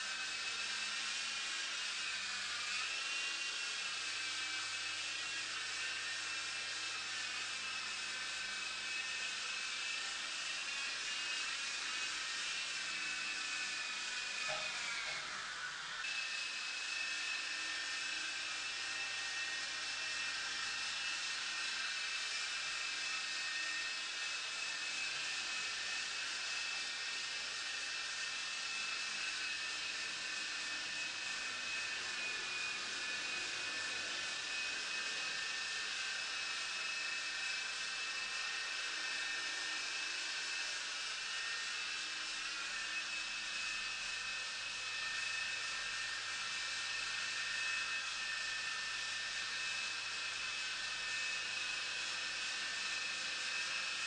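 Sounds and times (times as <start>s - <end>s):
toy helicopter motor whine: 0.0s - 54.0s.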